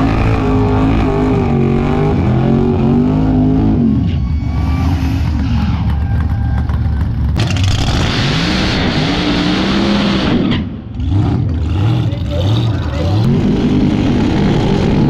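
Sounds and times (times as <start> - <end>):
engines revving high: 0.0 - 15.0.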